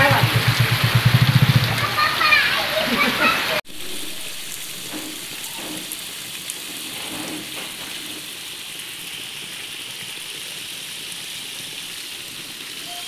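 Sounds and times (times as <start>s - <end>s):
heavy rain falling on ground: 0.0s - 13.0s.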